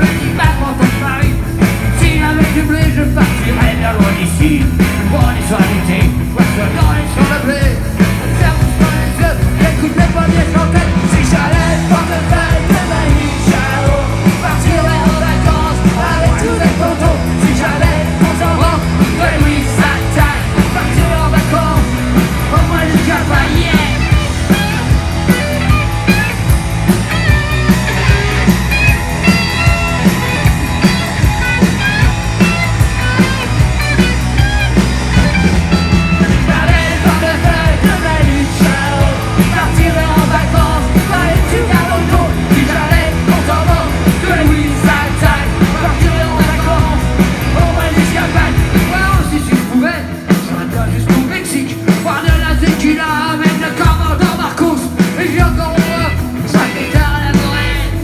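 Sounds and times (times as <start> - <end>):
man singing lead vocal: 0.0 - 24.9, 36.2 - 58.0
punk rock band playing: 0.0 - 58.0.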